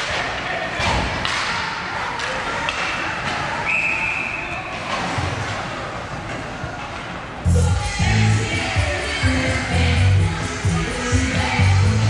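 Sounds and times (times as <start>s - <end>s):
ice hockey arena noise: 0.0s - 12.0s.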